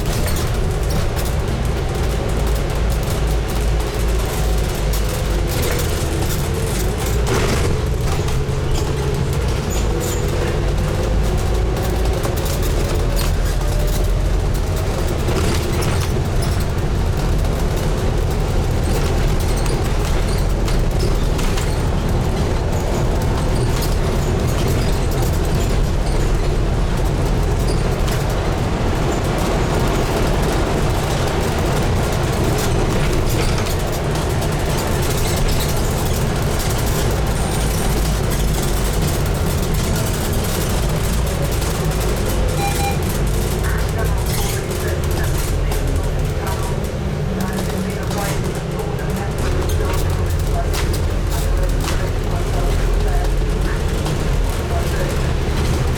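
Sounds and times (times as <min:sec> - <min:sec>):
bus diesel engine running: 0:00.0 - 0:55.9
clicks from bus body: 0:00.0 - 0:55.9
road noise: 0:00.0 - 0:55.9.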